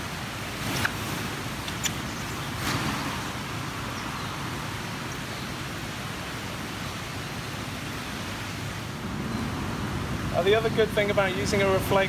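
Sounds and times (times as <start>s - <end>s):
distant road traffic: 0.4s - 12.0s.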